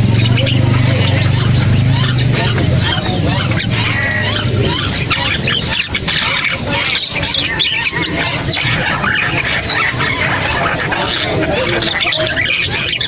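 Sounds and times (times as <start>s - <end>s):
caged birds chattering and squawking: 0.0s - 13.0s.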